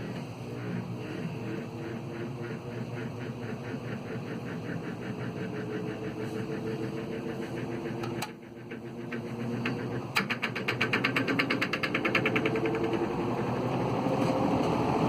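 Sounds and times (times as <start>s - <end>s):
fan motor humming and pulsing: 0.0s - 15.0s.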